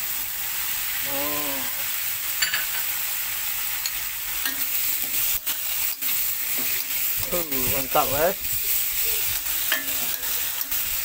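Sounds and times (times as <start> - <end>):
greens sizzling in hot oil: 0.0 - 11.0.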